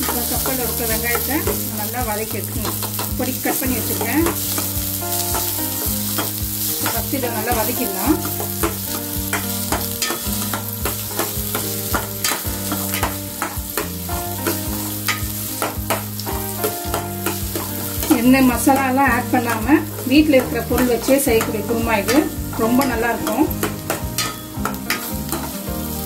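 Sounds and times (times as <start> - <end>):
spatula scraping steel pan: 0.0 - 25.7
onions sizzling in oil: 0.0 - 26.0.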